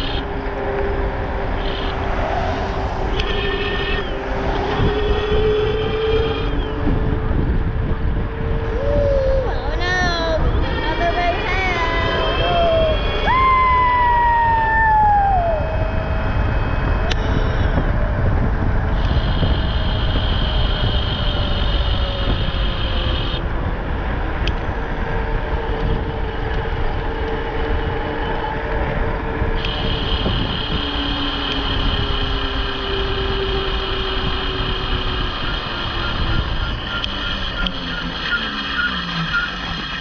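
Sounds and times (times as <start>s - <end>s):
high steady whine: 0.0s - 40.0s
wind rumbling over microphone: 0.0s - 40.0s.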